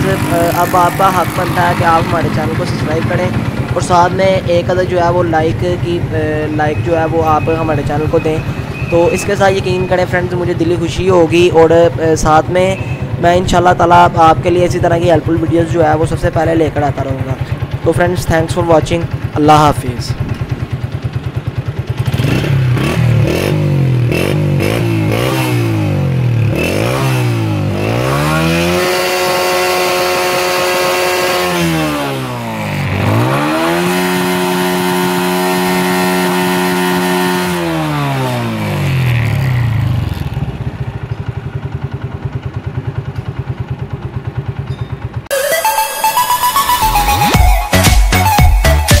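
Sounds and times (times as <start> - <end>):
motorcycle engine revving: 0.0 - 45.3.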